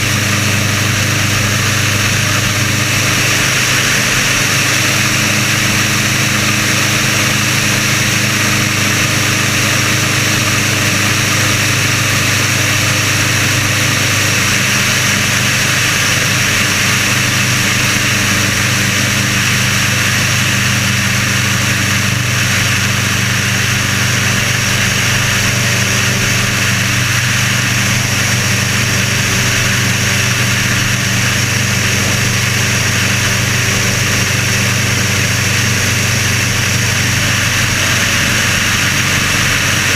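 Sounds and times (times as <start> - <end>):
propeller aircraft engine running: 0.0 - 39.9.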